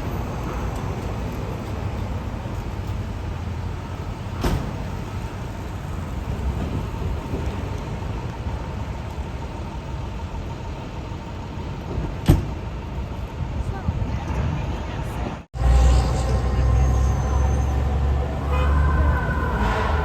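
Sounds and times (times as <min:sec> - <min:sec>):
road traffic rumble: 0:00.0 - 0:20.0
vehicle engines idling: 0:00.0 - 0:20.0.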